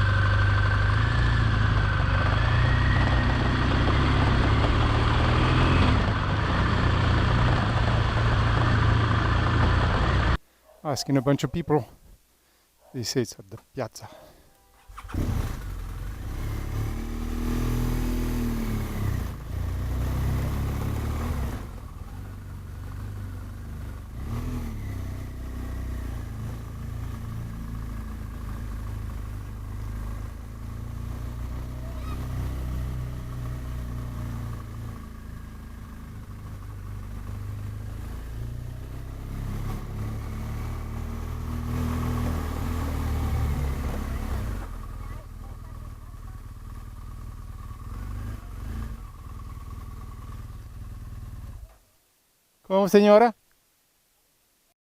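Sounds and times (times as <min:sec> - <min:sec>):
motorcycle engine running: 0:00.0 - 0:10.4, 0:14.8 - 0:51.7.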